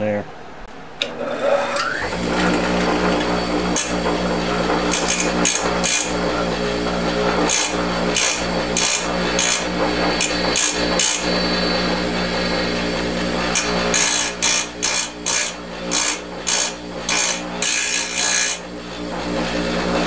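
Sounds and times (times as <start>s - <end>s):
bench grinder motor humming: 1.0s - 20.0s
metal hissing on grinding wheel: 1.3s - 20.0s.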